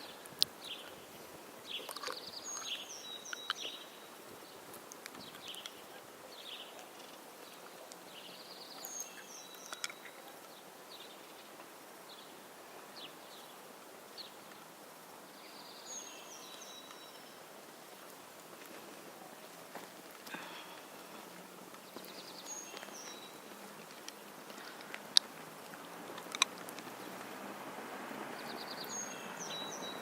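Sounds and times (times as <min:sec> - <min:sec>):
small birds chirping: 0:00.0 - 0:27.4, 0:28.2 - 0:30.0
steady background hiss: 0:00.0 - 0:30.0.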